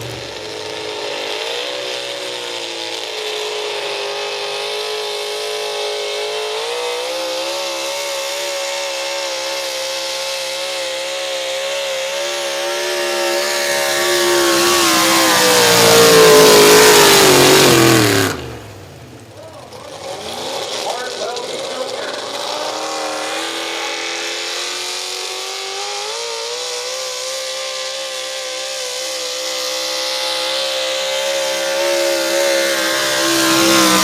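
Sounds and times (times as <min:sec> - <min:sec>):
truck engine at full throttle: 0:00.0 - 0:34.0.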